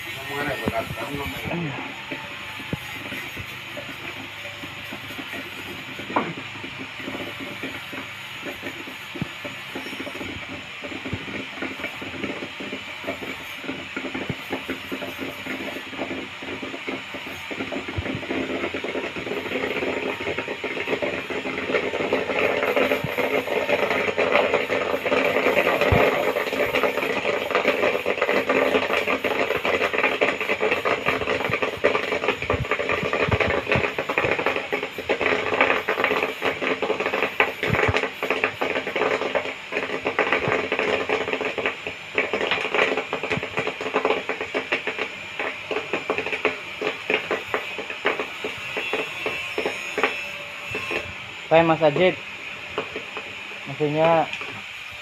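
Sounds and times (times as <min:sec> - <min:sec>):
popcorn popping: 0:00.0 - 0:55.0
steady hiss: 0:00.0 - 0:55.0.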